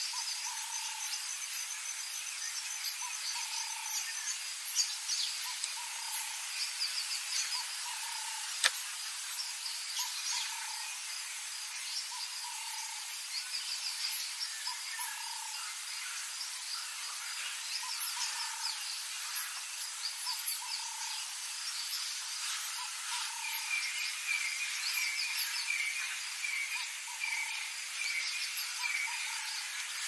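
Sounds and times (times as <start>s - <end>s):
insects chirping: 0.0s - 30.0s
steady hiss: 0.0s - 30.0s.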